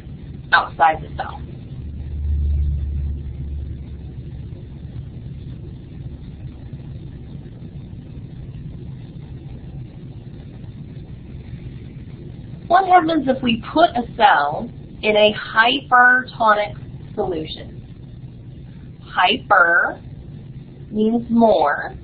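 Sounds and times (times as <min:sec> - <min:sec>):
deep rumble: 0:00.0 - 0:22.0.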